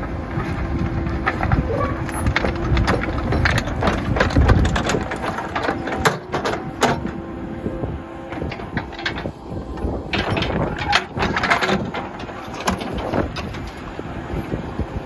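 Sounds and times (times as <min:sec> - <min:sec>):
backhoe engine rumbling: 0:00.0 - 0:15.0.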